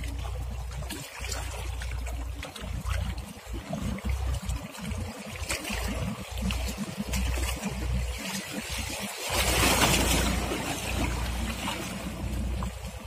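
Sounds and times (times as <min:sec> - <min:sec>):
water lapping and splashing: 0:00.0 - 0:13.0.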